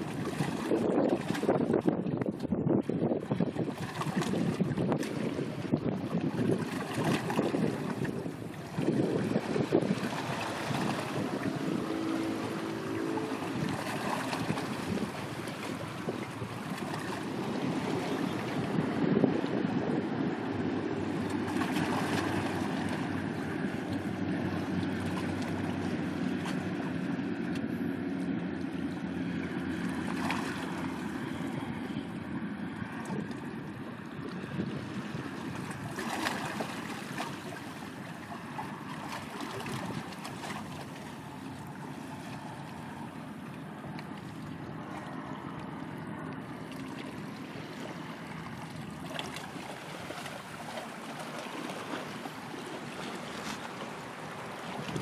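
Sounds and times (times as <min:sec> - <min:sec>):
wind buffeting microphone: 0:00.0 - 0:43.9, 0:47.4 - 0:55.0
sea noise: 0:00.0 - 0:55.0
wind: 0:00.0 - 0:55.0.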